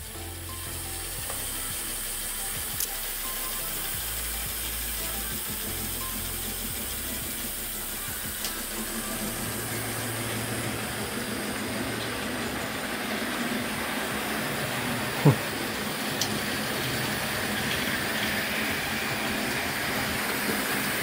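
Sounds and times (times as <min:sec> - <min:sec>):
high hiss: 0:00.0 - 0:21.0
model train motor whirring: 0:00.0 - 0:21.0.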